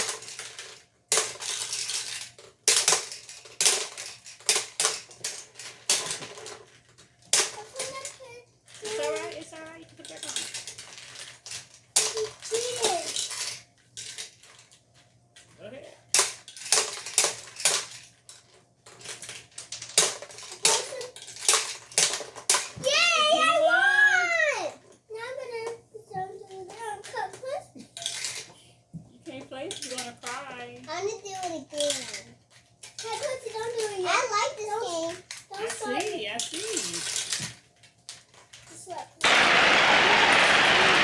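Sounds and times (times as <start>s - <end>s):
plastic toys clattering: 0.0s - 39.4s.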